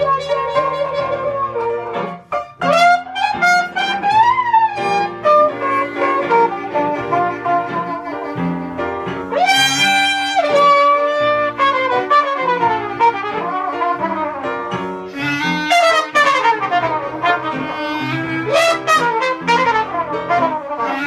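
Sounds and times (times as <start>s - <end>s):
clarinet: 0.0s - 21.0s
piano accompaniment: 0.0s - 21.0s
trumpet melody: 0.0s - 21.0s.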